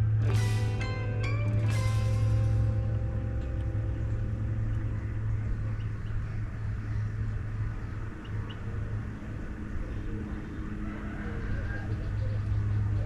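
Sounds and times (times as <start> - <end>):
motor rumble and hum: 0.0 - 10.8.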